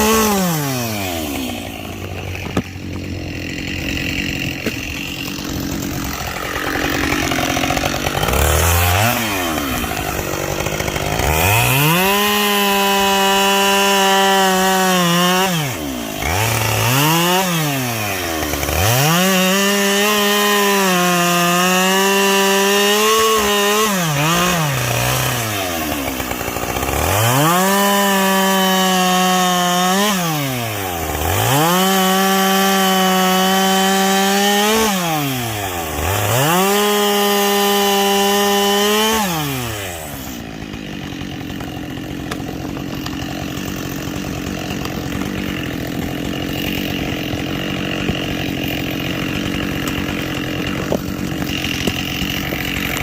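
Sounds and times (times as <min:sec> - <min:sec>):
chainsaw cutting logs: 0:00.0 - 0:53.0.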